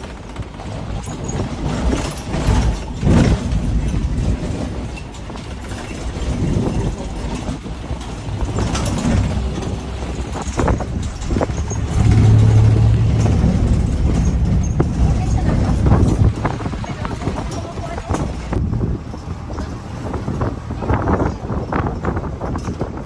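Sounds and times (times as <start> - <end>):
low engine hum: 0.0 - 23.0
vehicle engine and road rumble: 0.0 - 23.0.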